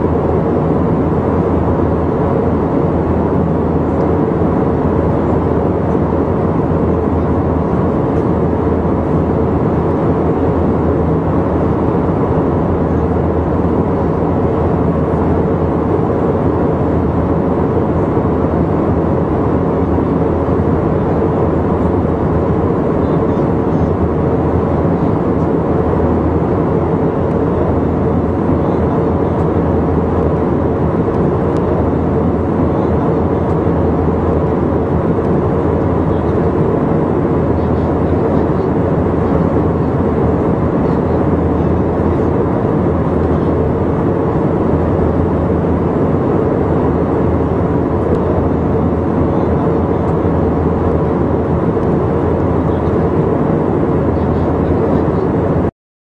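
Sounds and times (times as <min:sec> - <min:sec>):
airliner cabin engine drone: 0:00.0 - 0:55.7
faint steady hum: 0:00.0 - 0:55.7.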